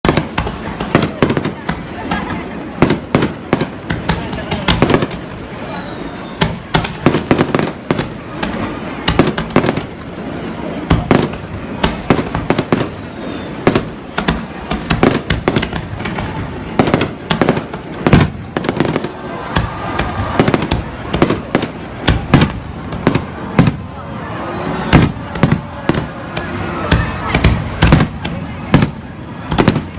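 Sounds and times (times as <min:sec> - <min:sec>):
fireworks bangs and cracks: 0:00.0 - 0:29.9.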